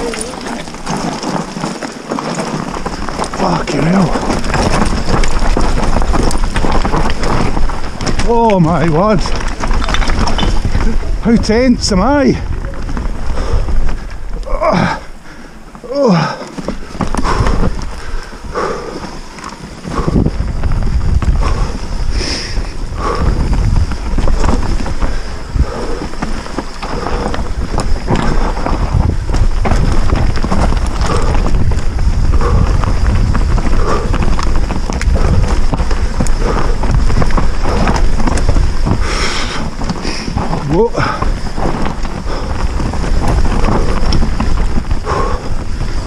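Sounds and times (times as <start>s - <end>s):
bike rattling and knocking: 0.0s - 46.0s
tyres rolling over dirt and stones: 0.0s - 46.0s
wind buffeting microphone: 0.0s - 46.0s.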